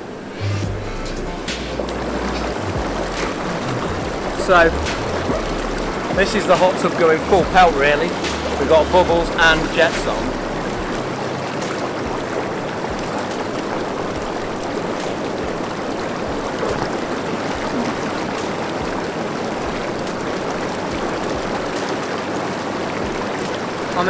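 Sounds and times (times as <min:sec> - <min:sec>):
hot tub water bubbling: 0:00.0 - 0:24.0.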